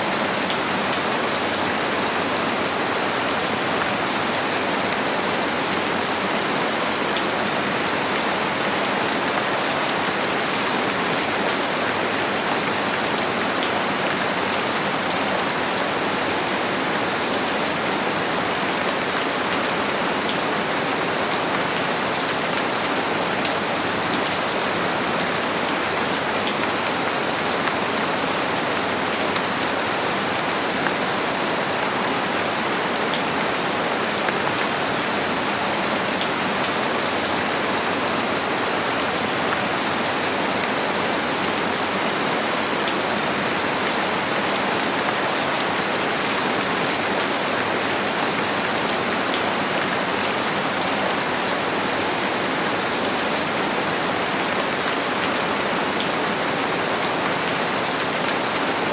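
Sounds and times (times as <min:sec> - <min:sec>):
rain falling on a surface: 0:00.0 - 0:58.9.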